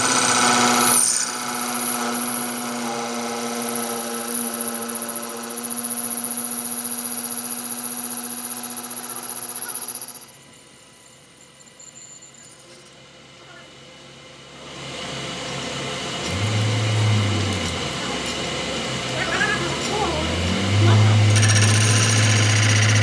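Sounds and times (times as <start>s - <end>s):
power tool motor whining: 0.0s - 12.6s, 16.0s - 23.0s.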